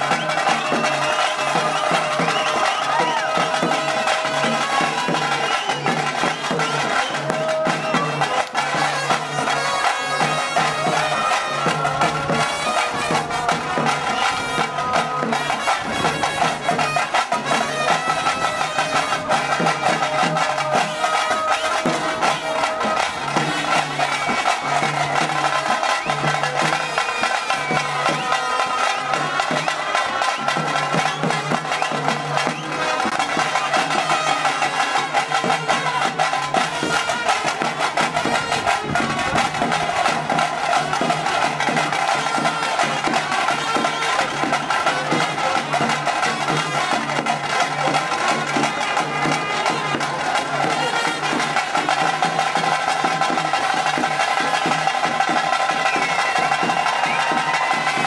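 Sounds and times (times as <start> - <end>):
fast dense drumming: 0.0 - 58.0
wind instrument melody: 0.0 - 58.0.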